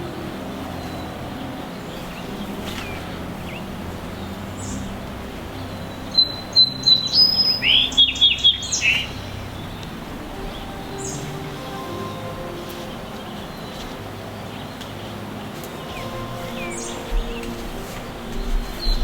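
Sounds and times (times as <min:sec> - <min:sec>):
songbird chirping and whistling: 0:00.0 - 0:19.0
steady low background hum: 0:00.0 - 0:19.0.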